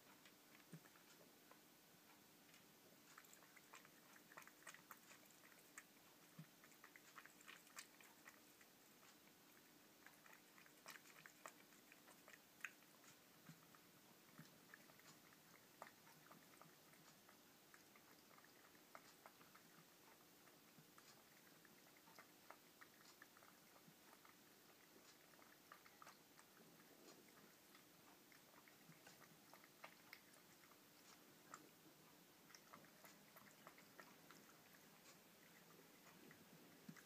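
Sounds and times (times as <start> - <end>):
cat chewing food: 0.0 - 37.0.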